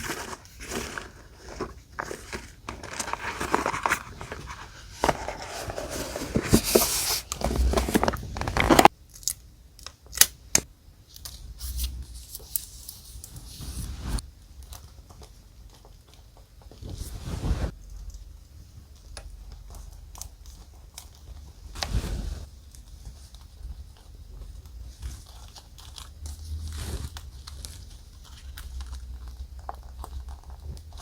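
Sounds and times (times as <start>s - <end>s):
paper rustling and crinkling: 0.0s - 8.9s, 11.2s - 17.8s, 19.7s - 31.0s.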